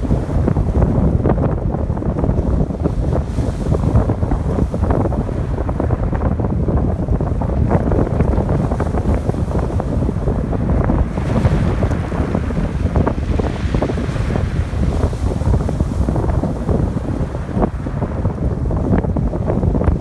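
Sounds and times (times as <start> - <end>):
ocean waves on shore: 0.0 - 20.0
surf washing in: 0.0 - 20.0
wind buffeting microphone: 0.0 - 20.0.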